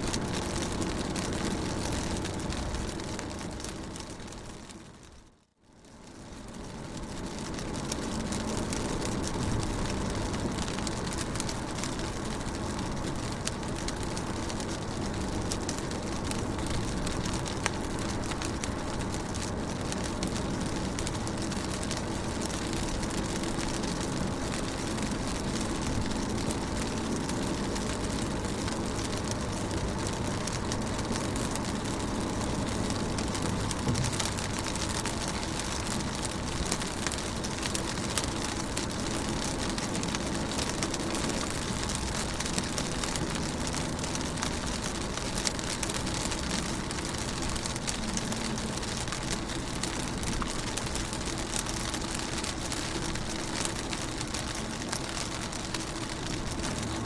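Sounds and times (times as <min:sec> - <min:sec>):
rain pattering on car windows: 0:00.0 - 0:57.0.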